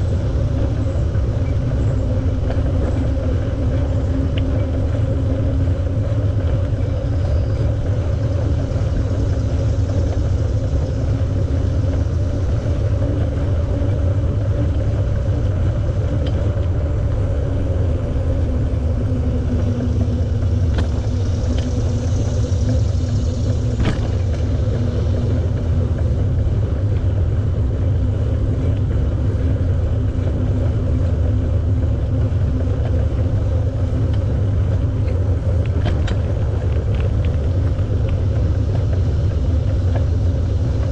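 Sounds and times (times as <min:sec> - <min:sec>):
faint steady hum: 0:00.0 - 0:40.9
wind rumble on microphone: 0:00.0 - 0:40.9.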